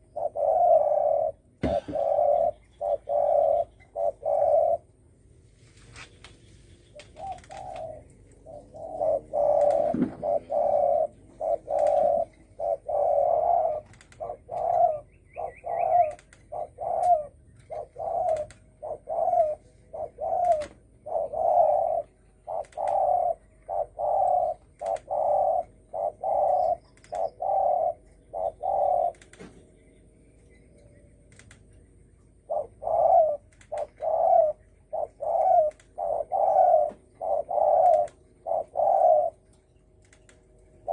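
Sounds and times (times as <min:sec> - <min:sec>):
dove cooing: 0:00.0 - 0:05.2, 0:06.1 - 0:30.0, 0:32.2 - 0:39.7, 0:40.7 - 0:40.9.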